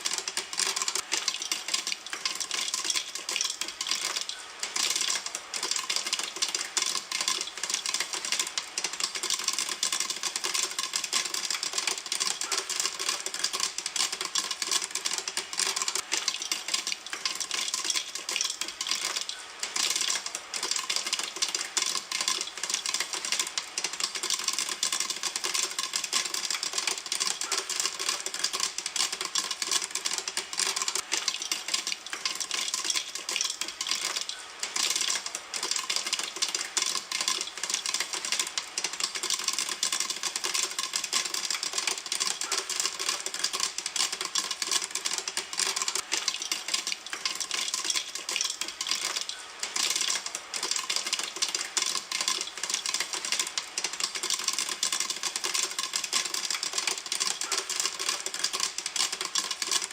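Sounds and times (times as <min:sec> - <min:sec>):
popcorn popping in a pan: 0:00.0 - 0:59.9.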